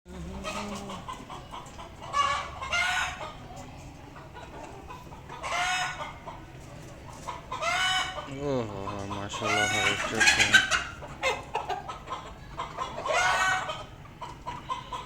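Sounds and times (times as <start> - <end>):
chickens clucking: 0.1 - 15.0
loud drawn-out chicken calls: 0.3 - 3.4, 4.2 - 15.0.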